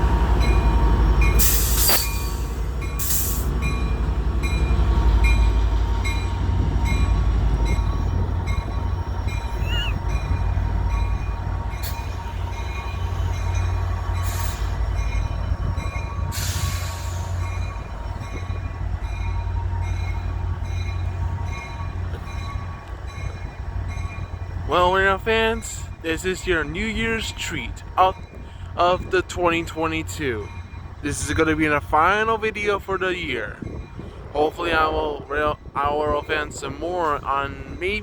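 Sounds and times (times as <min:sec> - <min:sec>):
diesel locomotive rumbling: 0:00.0 - 0:38.0.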